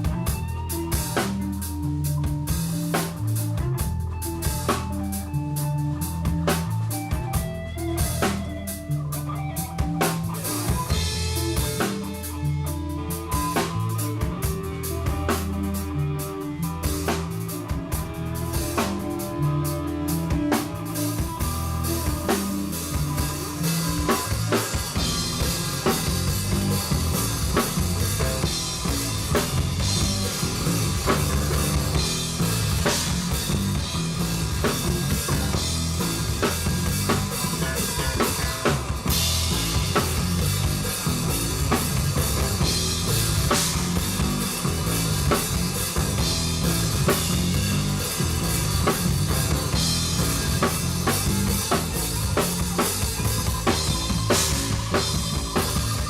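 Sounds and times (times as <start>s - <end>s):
band playing live: 0.0s - 56.0s
bass line: 0.0s - 56.0s
drum kit beat: 0.0s - 56.0s.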